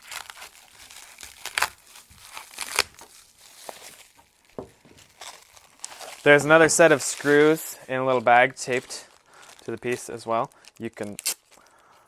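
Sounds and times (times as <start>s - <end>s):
packaging wrap crinkling and tearing: 0.0s - 12.0s.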